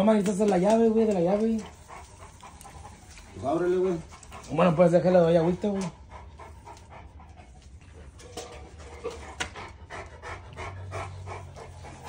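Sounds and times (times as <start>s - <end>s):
large dog panting: 0.0s - 12.0s.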